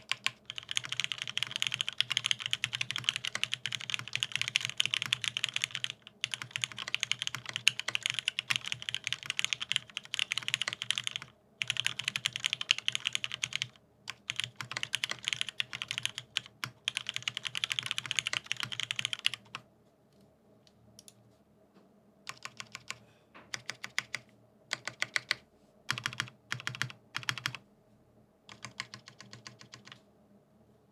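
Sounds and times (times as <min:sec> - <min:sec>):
typing on mechanical keyboard: 0:00.0 - 0:19.6, 0:22.3 - 0:27.6, 0:28.5 - 0:30.0.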